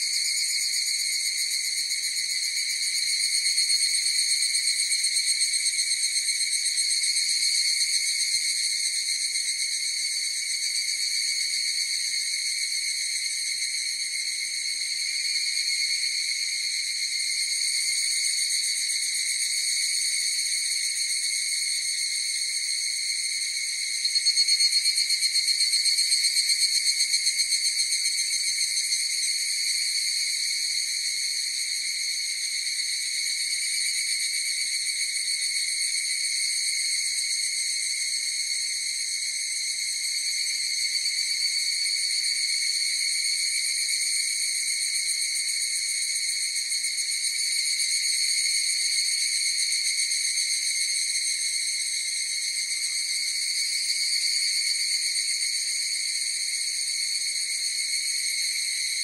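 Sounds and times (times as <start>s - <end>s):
cicada chorus pulsing ring: 0.0s - 59.0s
nearer cicada call: 0.0s - 59.0s.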